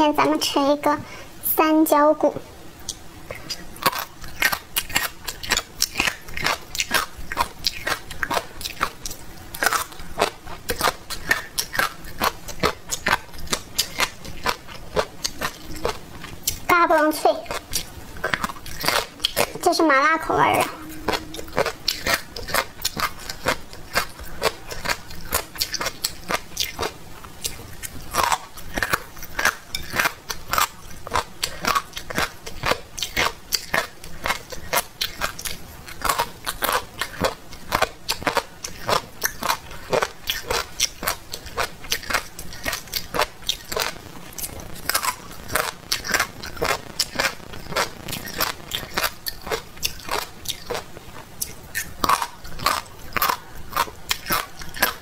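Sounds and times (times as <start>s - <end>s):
crunchy chewing: 2.8s - 19.6s, 20.6s - 55.0s.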